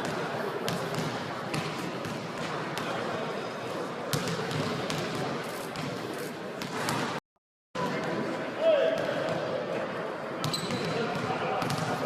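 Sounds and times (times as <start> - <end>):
steady background noise: 0.0 - 7.2, 7.8 - 12.0.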